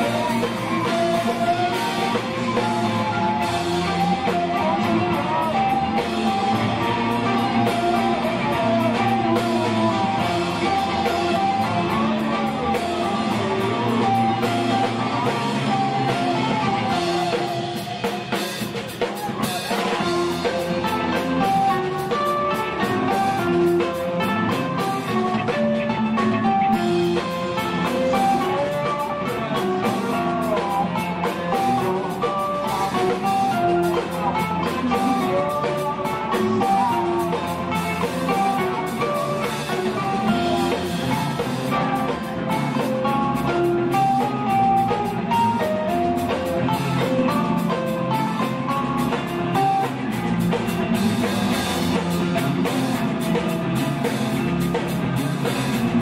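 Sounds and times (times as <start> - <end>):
drum kit with cymbals: 0.0 - 56.0
electric guitars playing quick runs: 0.0 - 56.0.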